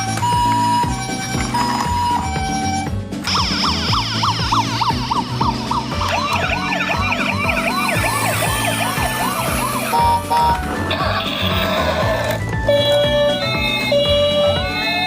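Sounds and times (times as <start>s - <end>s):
electronic toy siren wailing: 0.2s - 15.0s.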